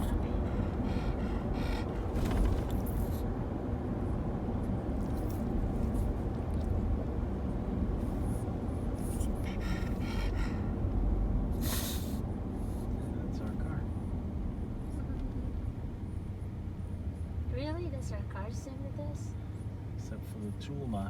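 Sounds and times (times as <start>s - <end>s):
vehicle rumble and road noise: 0.0s - 21.0s.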